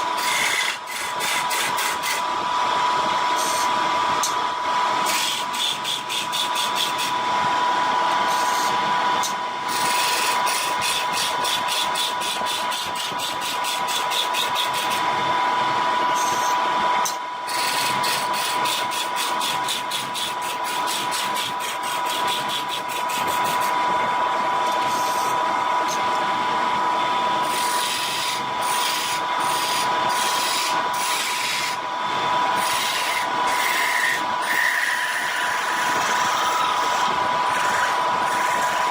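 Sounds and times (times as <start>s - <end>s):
turning tool cutting wood: 0.0s - 38.9s
wood lathe whining: 0.0s - 38.9s.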